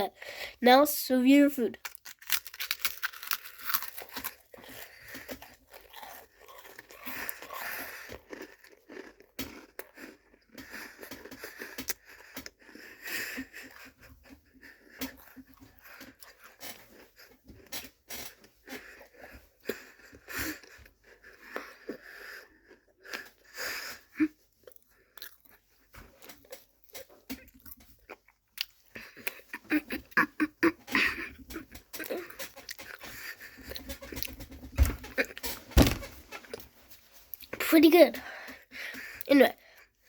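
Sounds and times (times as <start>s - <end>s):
cracker crunching while chewed: 1.8s - 35.6s.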